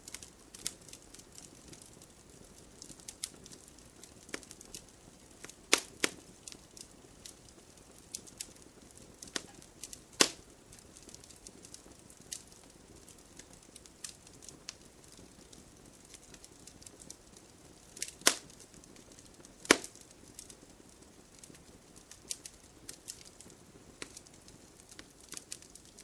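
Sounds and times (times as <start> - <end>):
bonfire crackling and popping: 0.0 - 26.0
low rush of flames: 0.0 - 26.0.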